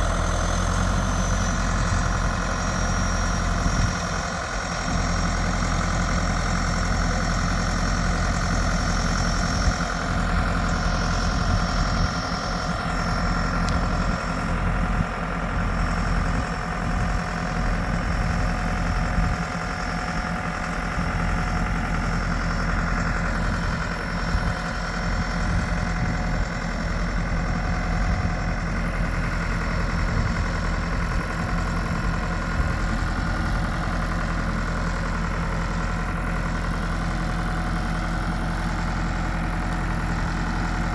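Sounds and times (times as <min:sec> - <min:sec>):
heavy engine running steadily: 0:00.0 - 0:40.9.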